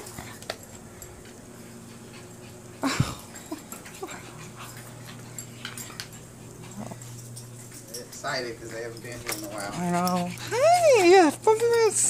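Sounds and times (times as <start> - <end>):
dogs whimpering and panting: 0.0 - 7.9, 8.7 - 12.0.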